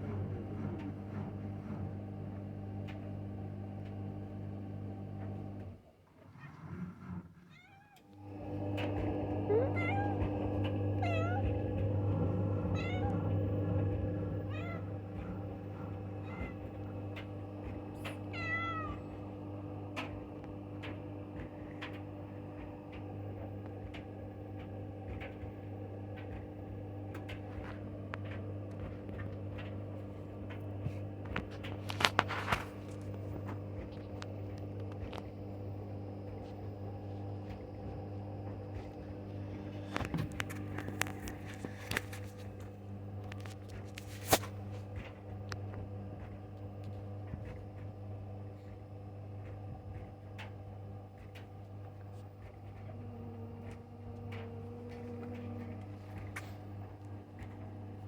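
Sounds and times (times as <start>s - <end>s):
washing machine spin cycle hum: 0.0s - 58.0s.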